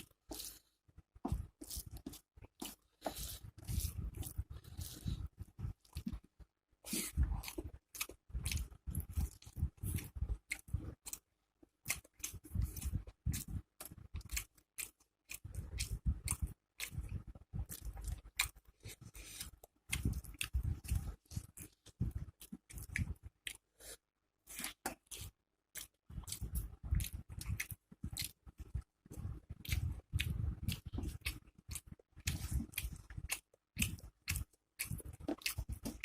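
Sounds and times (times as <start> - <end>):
person chewing crunchy food: 0.0 - 36.0.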